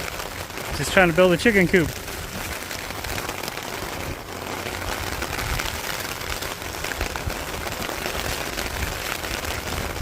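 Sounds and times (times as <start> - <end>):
fine crackling patter: 0.0 - 10.0
wind buffeting microphone: 0.0 - 10.0.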